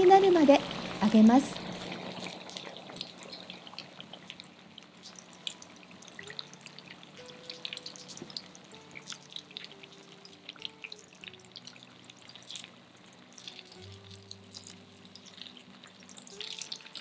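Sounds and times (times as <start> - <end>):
spring rolls sizzling in oil: 0.0 - 17.0.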